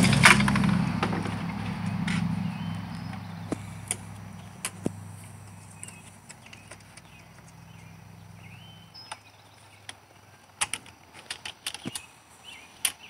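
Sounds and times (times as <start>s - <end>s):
bird chirps: 0.7s - 10.5s, 11.8s - 13.0s.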